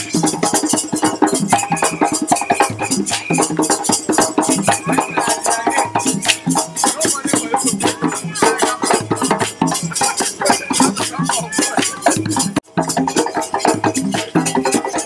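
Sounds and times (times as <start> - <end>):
hand drumming: 0.0 - 15.0.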